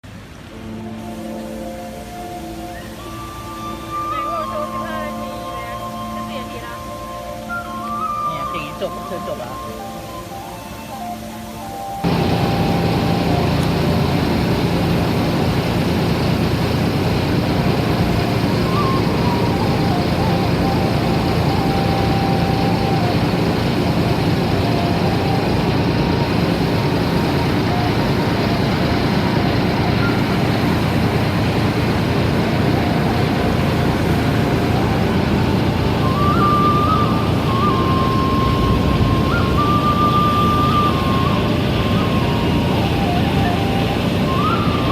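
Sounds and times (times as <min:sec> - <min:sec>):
loud engine noise: 0:00.0 - 0:44.9.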